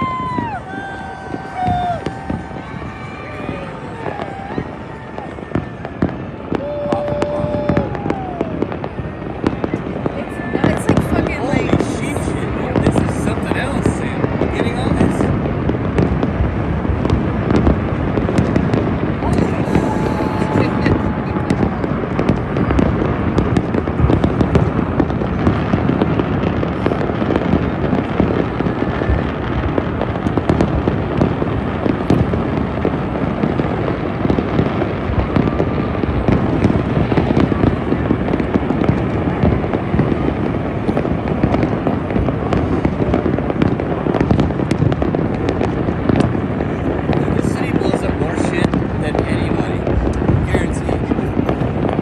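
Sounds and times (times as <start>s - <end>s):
fireworks booming and crackling: 0.0s - 52.0s.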